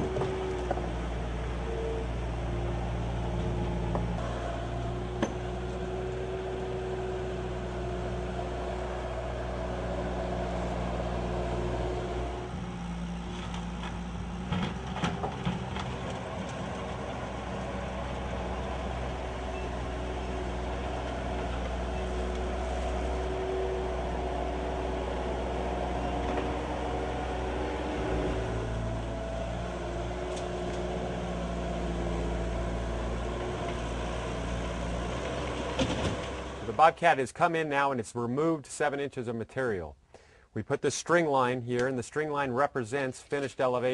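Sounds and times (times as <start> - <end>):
diesel engine running: 0.0 - 37.1.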